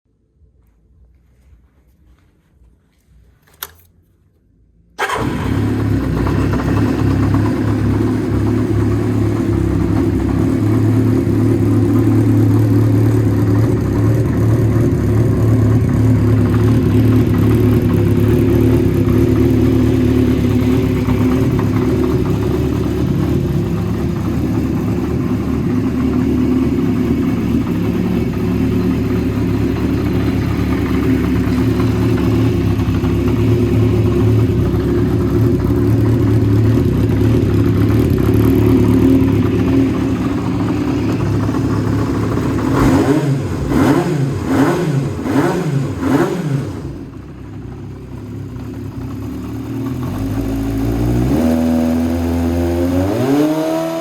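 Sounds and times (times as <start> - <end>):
motorcycle engine idling: 5.0 - 52.9.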